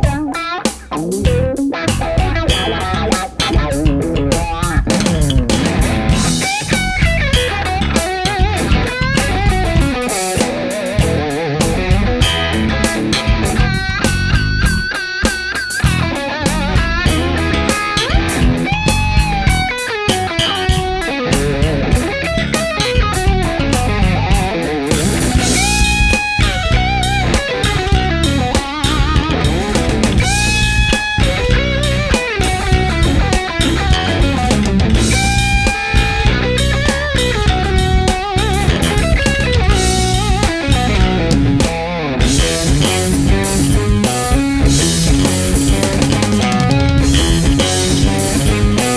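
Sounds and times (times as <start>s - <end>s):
bass guitar: 0.0s - 48.9s
lead electric guitar: 0.0s - 48.9s
steady drum beat: 0.0s - 48.9s.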